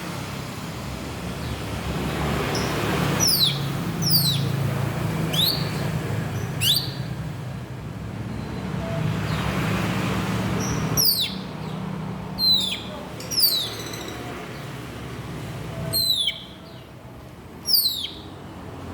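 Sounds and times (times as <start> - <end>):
low traffic hum: 0.0 - 18.9.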